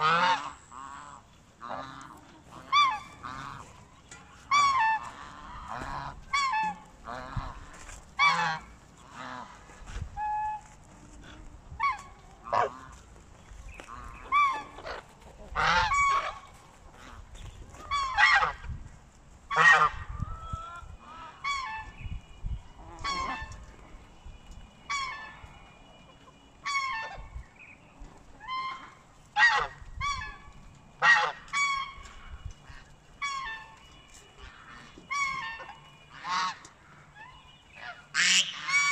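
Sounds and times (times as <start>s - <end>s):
geese honking: 0.0s - 18.8s, 19.4s - 38.9s.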